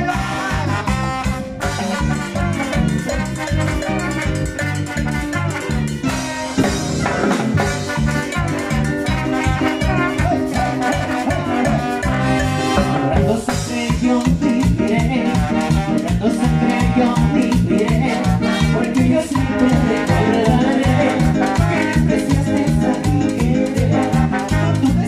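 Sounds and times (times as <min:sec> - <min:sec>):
trombones and saxophones: 0:00.0 - 0:14.2, 0:15.1 - 0:25.0
timbales and drum kit: 0:00.8 - 0:23.2.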